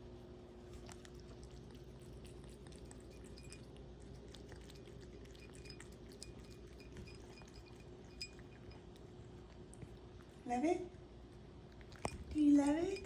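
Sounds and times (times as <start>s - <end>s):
cat chewing: 0.4s - 10.4s, 11.1s - 13.0s.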